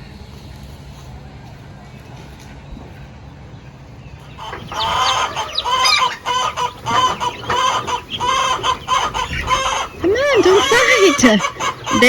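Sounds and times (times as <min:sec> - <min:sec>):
young turkeys calling: 0:00.9 - 0:12.0.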